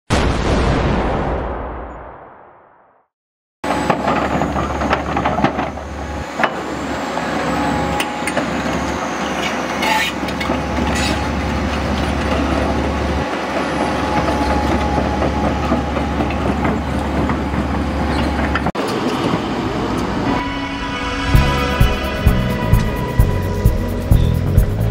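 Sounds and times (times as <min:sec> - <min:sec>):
excavator diesel engine running: 0:03.6 - 0:24.9.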